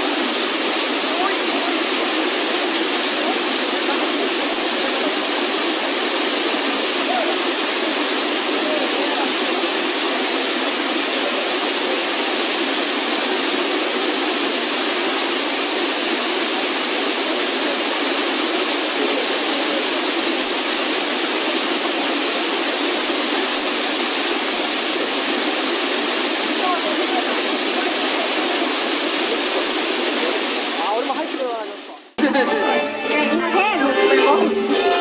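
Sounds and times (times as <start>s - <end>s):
waterfall rushing into a pool: 0.0s - 32.8s.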